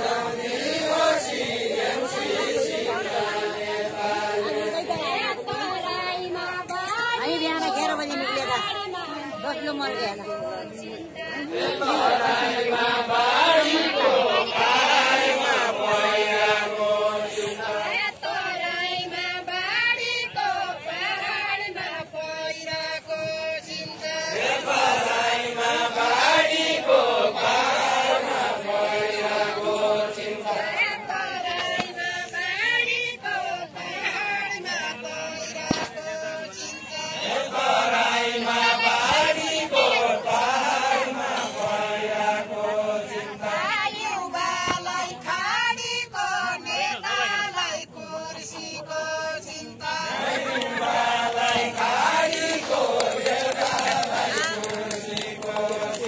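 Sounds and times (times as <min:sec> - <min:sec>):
group singing unaccompanied folk song: 0:00.0 - 0:56.0.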